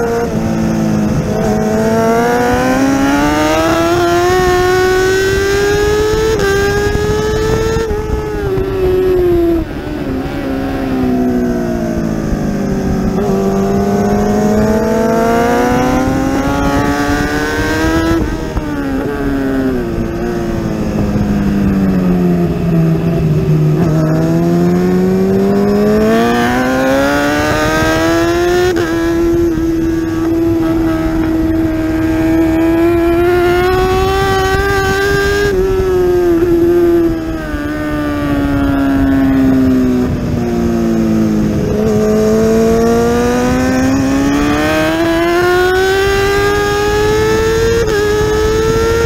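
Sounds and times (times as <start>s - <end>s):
motorcycle engine at racing speed: 0.0s - 49.0s
wind rush: 0.0s - 49.0s.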